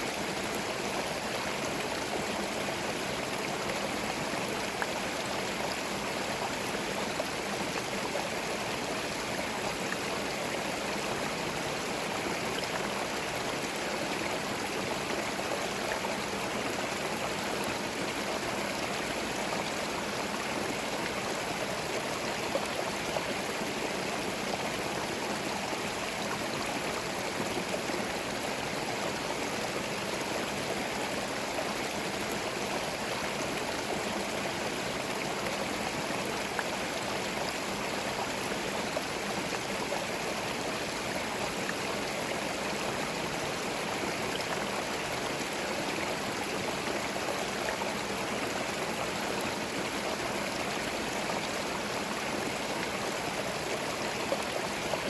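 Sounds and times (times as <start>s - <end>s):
stream burbling over stones: 0.0s - 55.0s.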